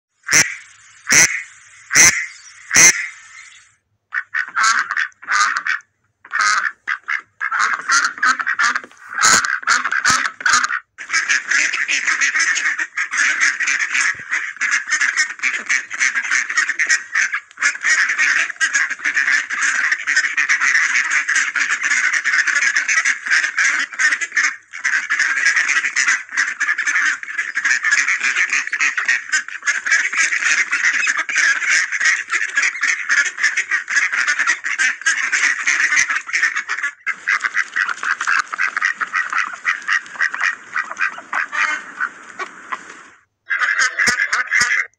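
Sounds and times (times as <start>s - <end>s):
ducks quacking: 0.2s - 44.9s.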